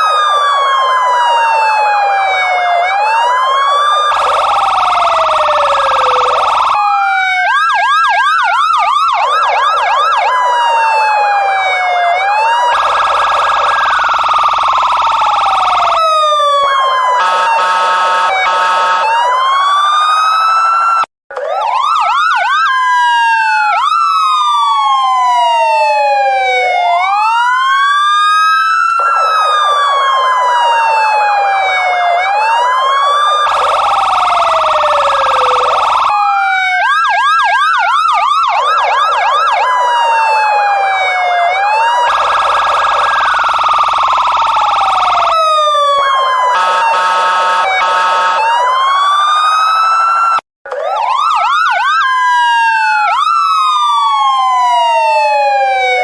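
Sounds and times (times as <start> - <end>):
police siren wailing and yelping: 0.0 - 56.0.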